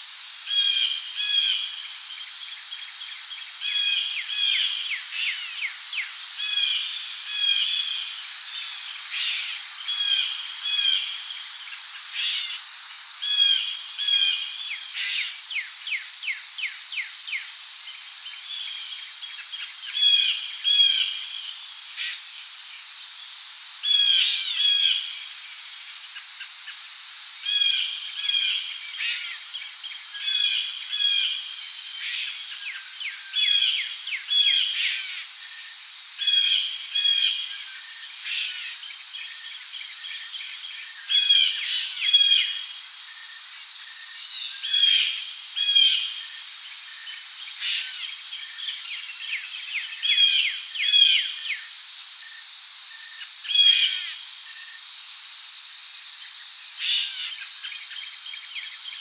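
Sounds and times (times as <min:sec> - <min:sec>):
crickets droning: 0:00.0 - 0:59.0.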